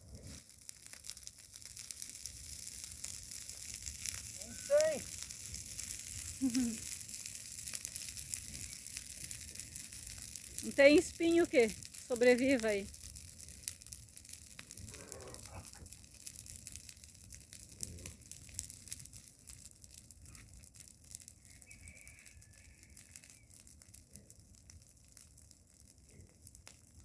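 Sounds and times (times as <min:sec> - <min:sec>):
bonfire crackling and popping: 0:00.0 - 0:27.0.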